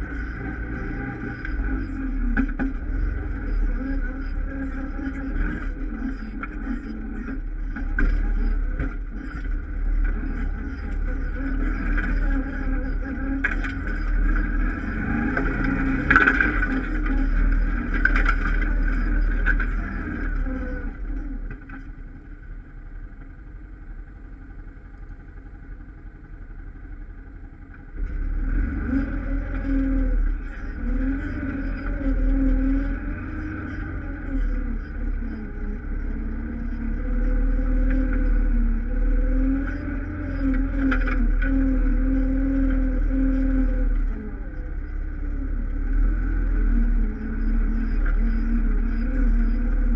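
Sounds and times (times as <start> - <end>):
atv engine revving: 0.0 - 23.3, 24.5 - 49.9.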